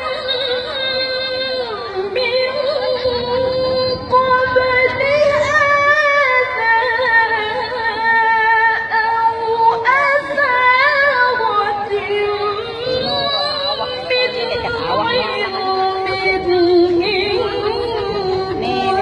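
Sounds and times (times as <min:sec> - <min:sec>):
woman chanting melodic recitation: 0:00.0 - 0:19.0.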